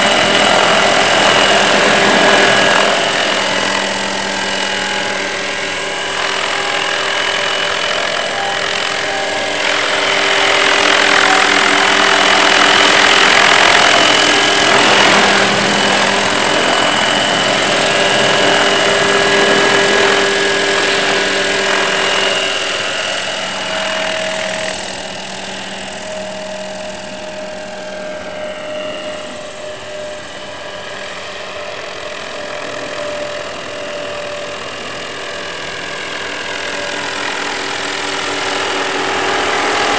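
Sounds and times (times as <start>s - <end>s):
model helicopter whine and rotor: 0.0s - 39.9s.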